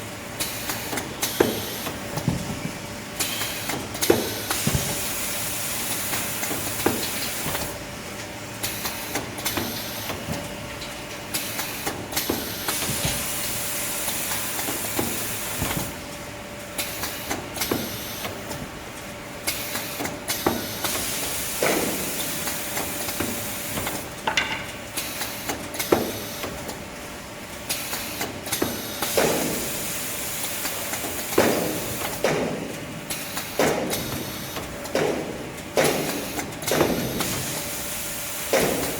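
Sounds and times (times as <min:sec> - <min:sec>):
machine hiss and hum: 0:00.0 - 0:38.9.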